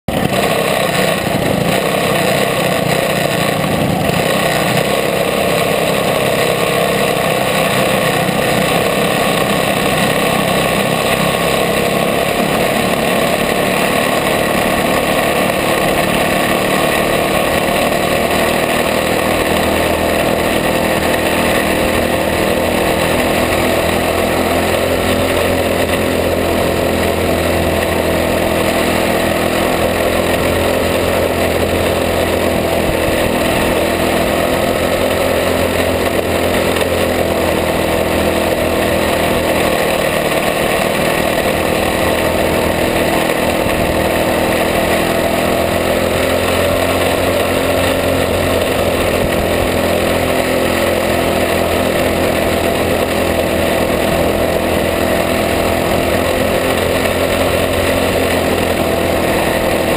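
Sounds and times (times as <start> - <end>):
kart engine running: 0.0 - 59.9.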